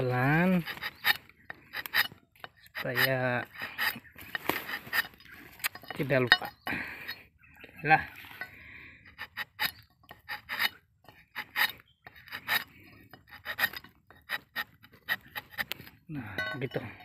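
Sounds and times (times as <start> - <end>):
knife scraping tree bark: 0.0 - 7.2, 8.0 - 17.0.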